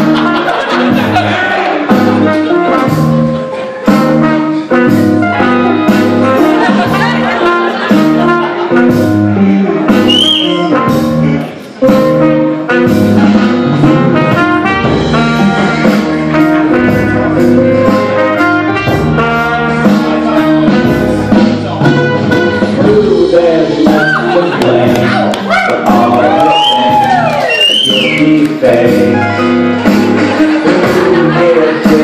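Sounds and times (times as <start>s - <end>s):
jazz brass music: 0.0s - 32.0s.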